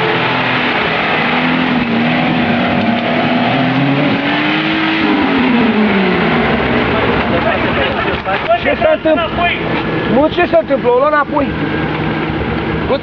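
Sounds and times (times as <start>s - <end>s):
vehicle engine revving under load: 0.0s - 13.0s.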